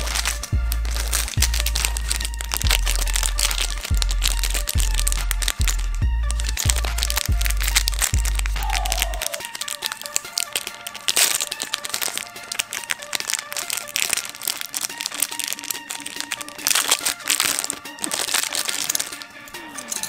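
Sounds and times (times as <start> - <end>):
plastic bag crinkling: 0.0 - 20.0
soft background music: 0.0 - 20.0.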